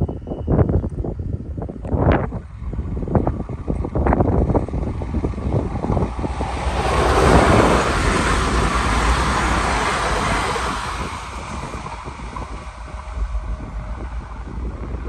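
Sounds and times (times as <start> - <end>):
electric train passing at speed: 0.0 - 15.0
wind buffeting microphone: 0.0 - 15.0.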